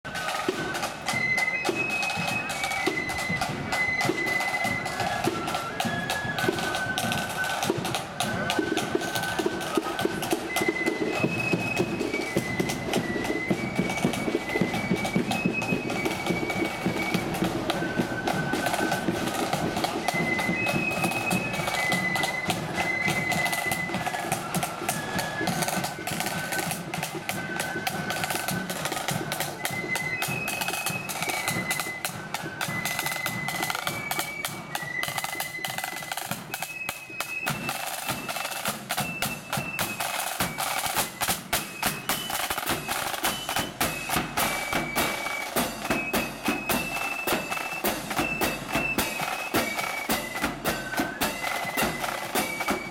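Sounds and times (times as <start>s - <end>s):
cymbals: 0.1s - 52.9s
flutes playing melody: 0.1s - 52.9s
rattling side drums: 0.1s - 52.9s.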